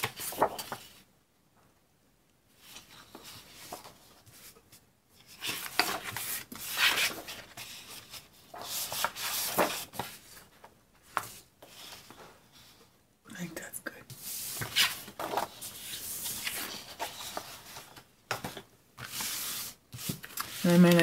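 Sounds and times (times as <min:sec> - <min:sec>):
paper sheets rustling on table: 0:00.0 - 0:01.0, 0:02.6 - 0:12.9, 0:14.1 - 0:21.0.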